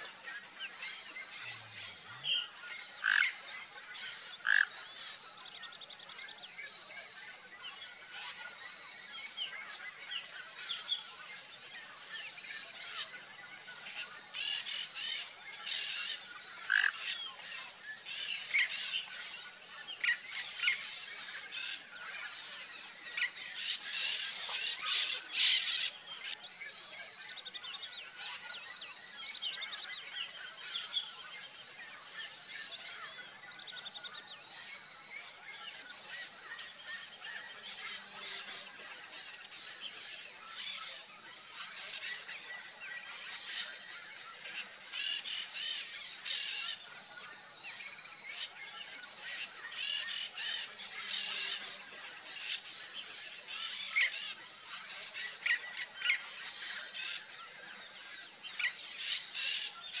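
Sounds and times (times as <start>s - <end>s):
high-pitched insect trill: 0.1s - 60.0s.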